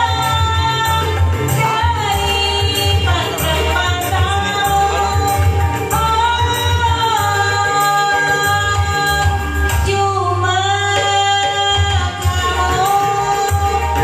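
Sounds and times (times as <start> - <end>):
hand-drum percussion: 0.0 - 10.1, 10.8 - 14.0.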